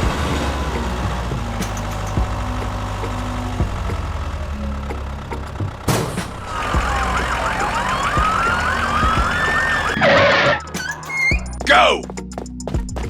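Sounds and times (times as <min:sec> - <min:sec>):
low engine hum: 0:00.0 - 0:10.8
emergency sirens yelping and wailing: 0:00.0 - 0:11.6.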